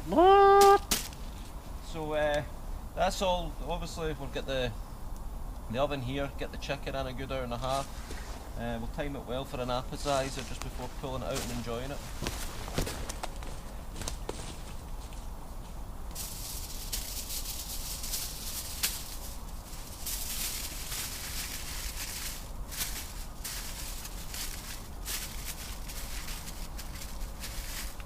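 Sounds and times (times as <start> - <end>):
rustling hissing noise: 0.0 - 28.0
steady low rumble: 1.1 - 28.0.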